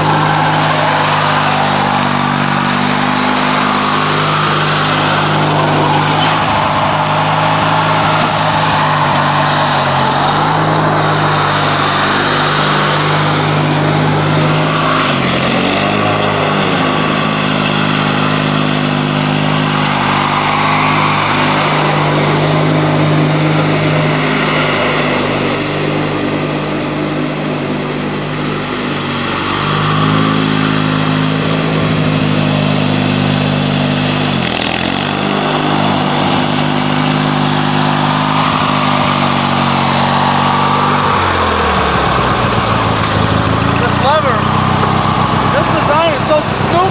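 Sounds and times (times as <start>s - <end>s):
lawn tractor engine running: 0.0s - 46.9s.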